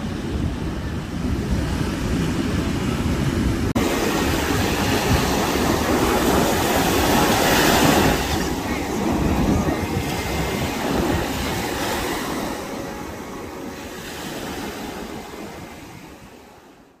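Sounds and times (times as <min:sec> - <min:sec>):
waves breaking: 0:00.0 - 0:17.0
wind rumbling on microphone: 0:00.0 - 0:17.0.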